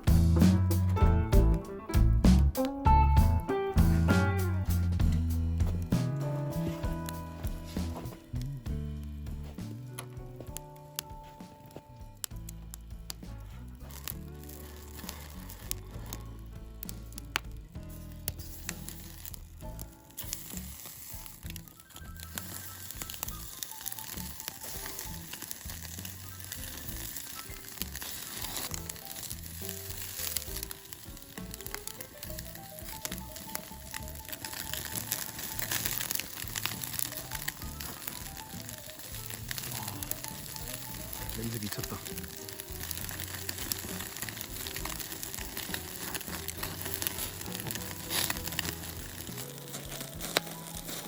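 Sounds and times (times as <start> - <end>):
background music: 0.0 - 51.0
crackling pops: 0.0 - 51.0
meat sizzling over wood fire: 3.2 - 51.0.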